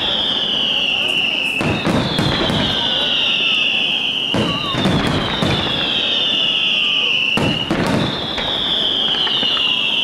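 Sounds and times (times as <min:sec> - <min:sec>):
firework bangs: 0:00.0 - 0:10.0
firework cracks: 0:00.0 - 0:10.0
firework whistle falling in pitch: 0:00.0 - 0:10.0.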